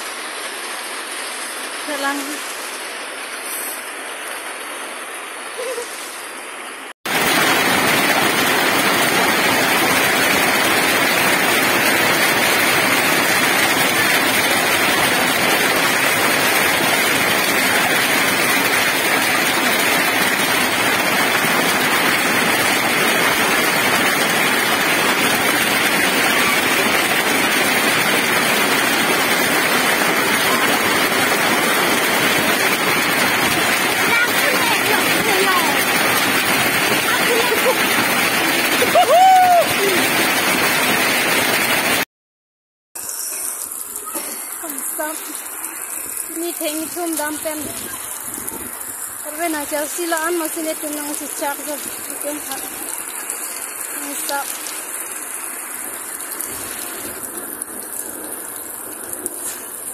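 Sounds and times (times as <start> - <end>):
hail and rain pelting down: 0.0 - 42.0, 43.0 - 59.9.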